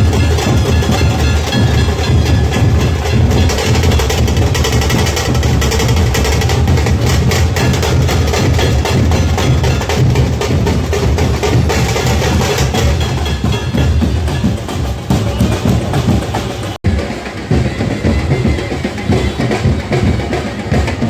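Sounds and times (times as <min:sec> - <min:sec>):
heavy bass drum: 0:00.0 - 0:21.0
rapid drum strokes: 0:00.0 - 0:21.0.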